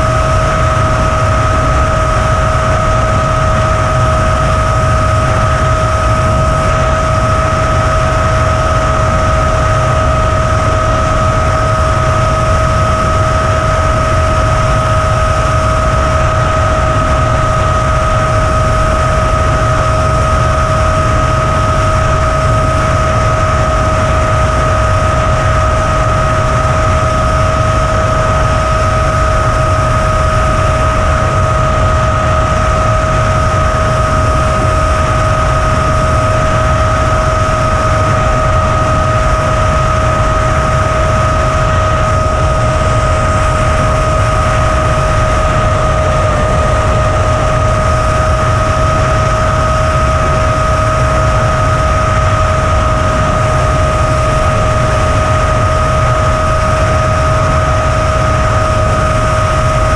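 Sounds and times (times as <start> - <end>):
high steady whine: 0.0 - 59.9
wind rush and hiss: 0.0 - 59.9.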